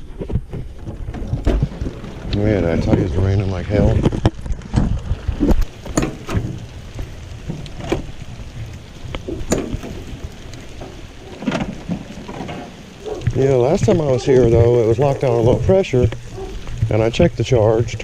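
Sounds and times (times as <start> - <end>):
heavy rain falling: 0.0 - 18.0
raindrops tapping on surfaces: 0.0 - 18.0.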